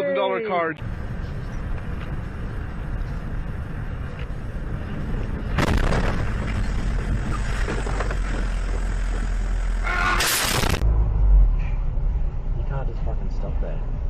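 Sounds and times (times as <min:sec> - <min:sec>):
car engine and road noise: 0:00.2 - 0:14.0.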